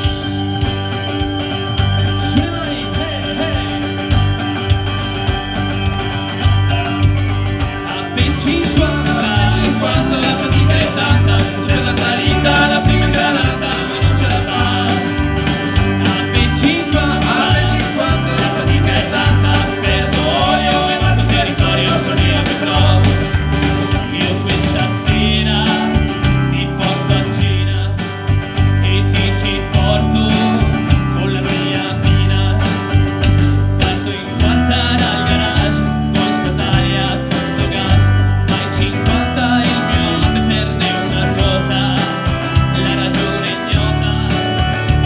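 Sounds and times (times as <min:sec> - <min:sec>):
driving drum beat: 0:00.0 - 0:45.0
electric bass: 0:00.0 - 0:45.0
electric guitar: 0:00.0 - 0:45.0
keyboard: 0:00.0 - 0:45.0.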